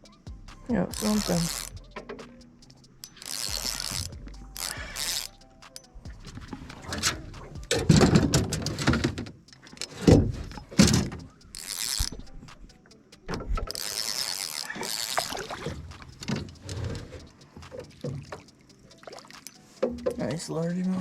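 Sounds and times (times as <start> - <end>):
fishing reel cranking: 0.0 - 21.0.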